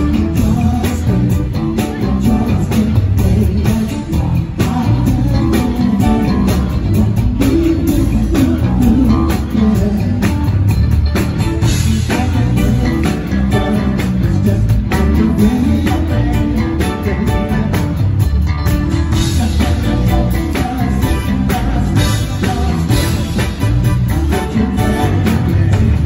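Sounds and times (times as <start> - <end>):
bass guitar: 0.0 - 26.0
drum kit: 0.0 - 26.0
electric guitar: 0.0 - 26.0
keyboards: 0.0 - 26.0.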